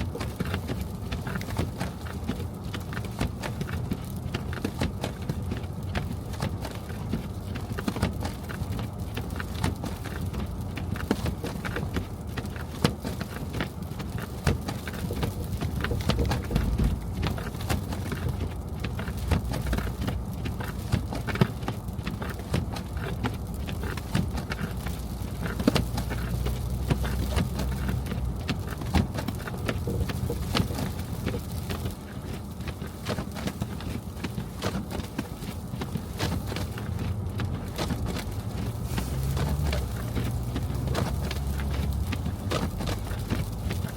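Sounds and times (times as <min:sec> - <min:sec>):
car rumble on road: 0:00.0 - 0:43.9.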